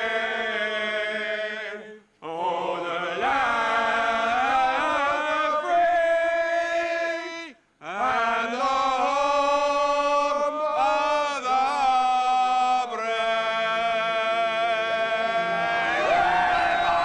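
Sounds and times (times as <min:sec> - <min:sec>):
chant-like singing: 0:00.0 - 0:17.0.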